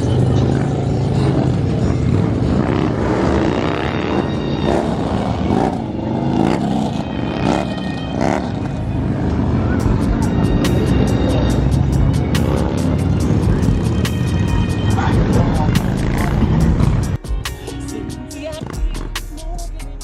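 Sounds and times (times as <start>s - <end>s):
car engines revving: 0.0s - 19.4s.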